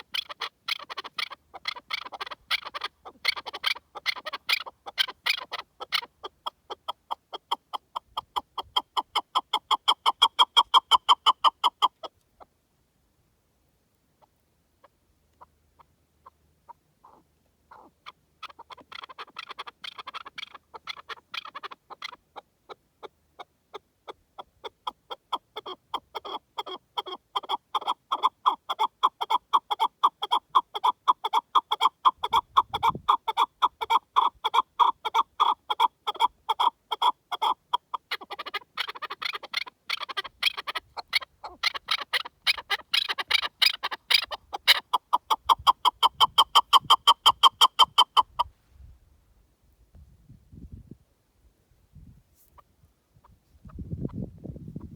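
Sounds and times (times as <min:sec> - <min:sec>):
partridge calling: 0:00.0 - 0:12.1, 0:14.2 - 0:48.5.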